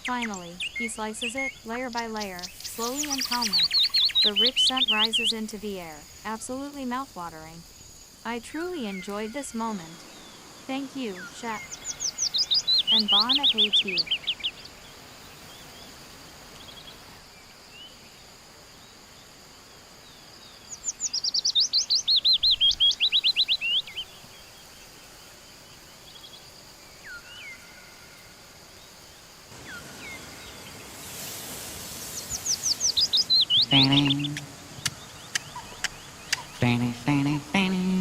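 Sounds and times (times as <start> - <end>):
background hiss: 0.0 - 38.0
songbirds chirping: 0.0 - 38.0.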